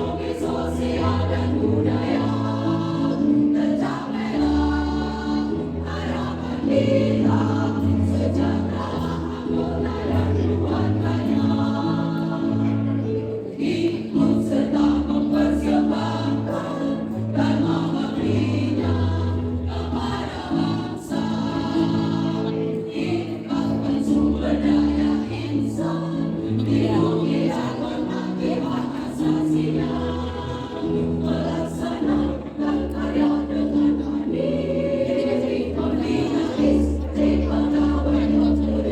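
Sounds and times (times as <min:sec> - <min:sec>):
choir singing in parts: 0:00.0 - 0:38.9.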